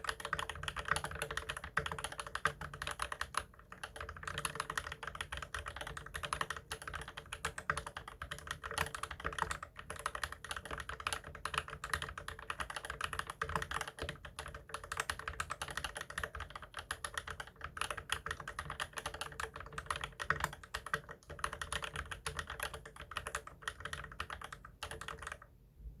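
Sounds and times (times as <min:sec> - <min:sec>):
fast typing on mechanical keyboard: 0:00.0 - 0:25.5.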